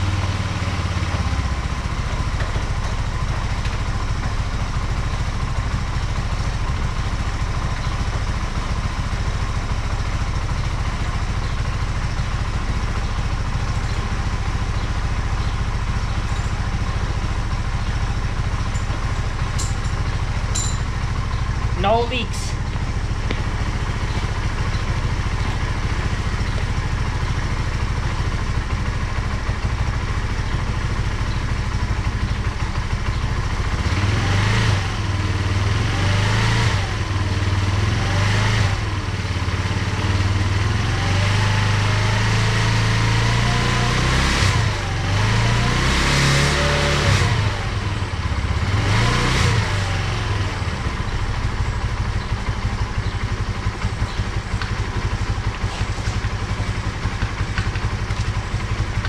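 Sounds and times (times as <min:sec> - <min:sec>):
scooter engine idling and revving: 0:00.0 - 0:59.0.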